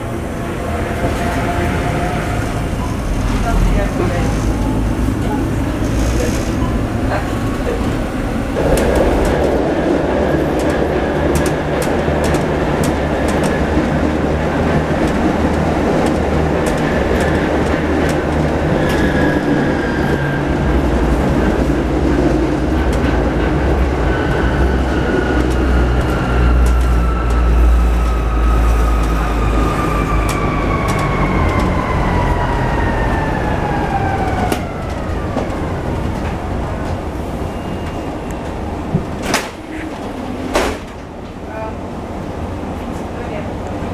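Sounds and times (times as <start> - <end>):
tram wheels rumbling on rail: 0.0 - 43.9.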